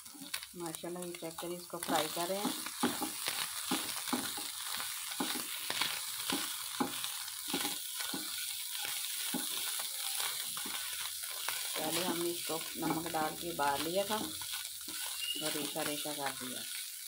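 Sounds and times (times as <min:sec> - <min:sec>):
chicken sizzling in a pan: 0:00.0 - 0:17.0
spatula scraping a pan: 0:01.4 - 0:16.9.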